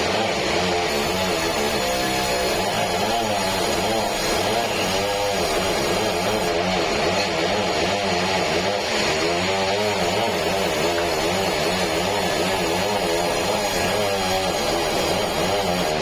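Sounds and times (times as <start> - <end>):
sawmill saw running: 0.0 - 16.0.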